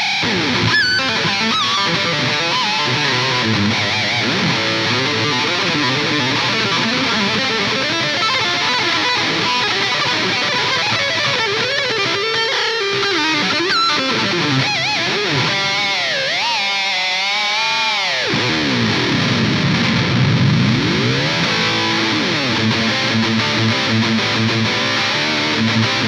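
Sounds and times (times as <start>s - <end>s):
distorted electric guitar lead: 0.0s - 26.0s.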